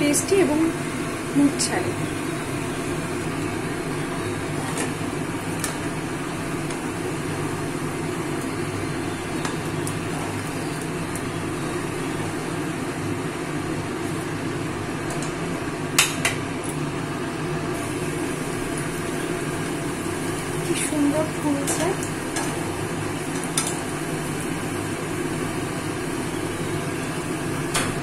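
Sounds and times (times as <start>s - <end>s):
fritters frying in oil: 0.0s - 28.0s.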